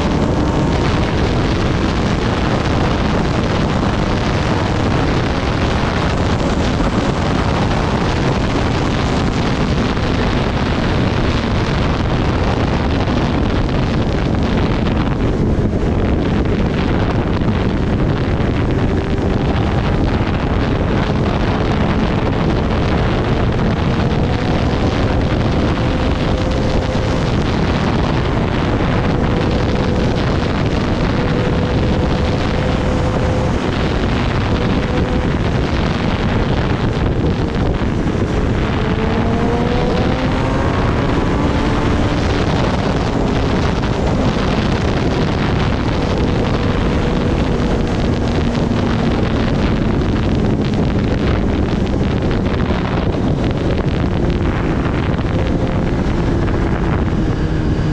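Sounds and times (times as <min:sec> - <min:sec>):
motorcycle engine: 0:00.0 - 0:57.9
wind buffeting microphone: 0:00.0 - 0:57.9.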